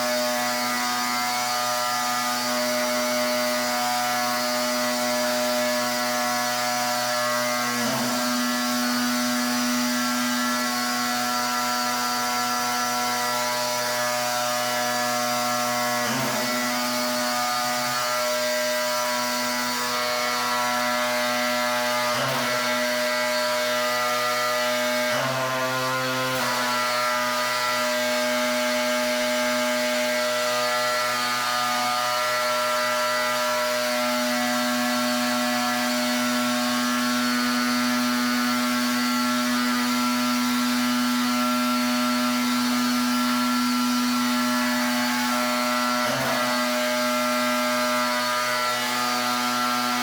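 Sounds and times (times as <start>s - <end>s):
pressure washer motor hum: 0.0s - 50.0s.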